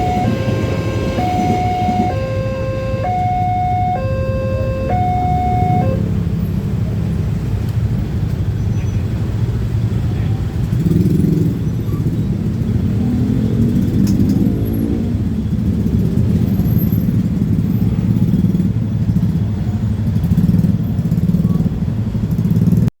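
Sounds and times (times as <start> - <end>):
heavy engines rumbling: 0.0 - 22.9.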